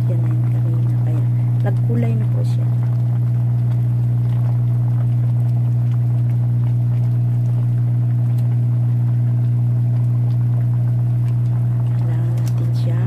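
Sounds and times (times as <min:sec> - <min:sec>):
induction cooktop hum: 0:00.0 - 0:13.0.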